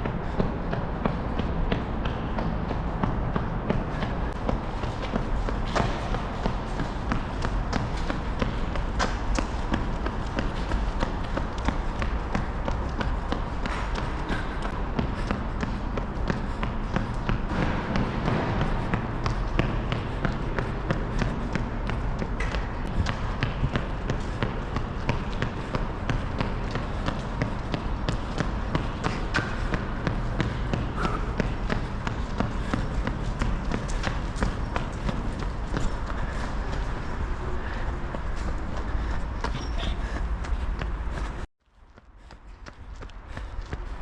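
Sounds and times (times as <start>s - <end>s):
outdoor background noise: 0.0s - 44.0s
running footsteps on pavement: 0.0s - 44.0s.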